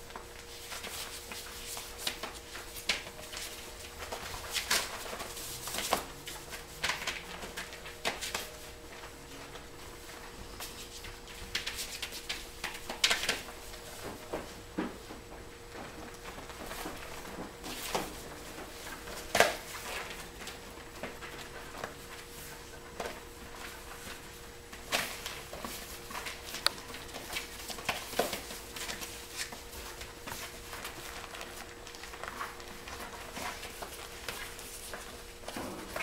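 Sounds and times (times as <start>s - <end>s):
faint steady hum: 0.0s - 36.0s
puppies scuffling on floor: 0.0s - 36.0s.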